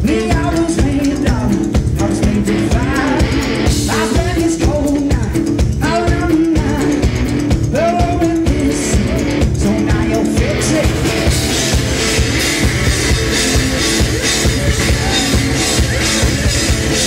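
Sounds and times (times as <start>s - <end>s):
distorted electric guitar: 0.0s - 17.0s
drum kit with cymbals: 0.0s - 17.0s
man singing: 0.0s - 17.0s.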